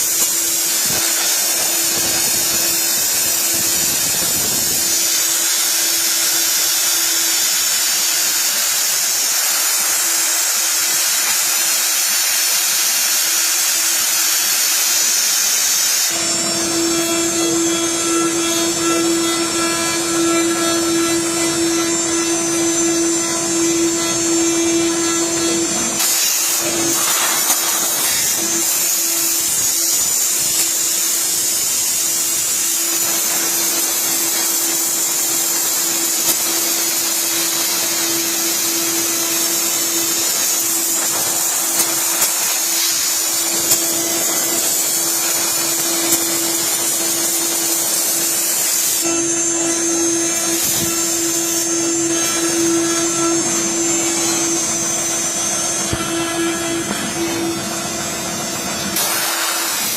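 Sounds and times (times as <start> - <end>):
router spindle hissing and humming: 0.0 - 59.9.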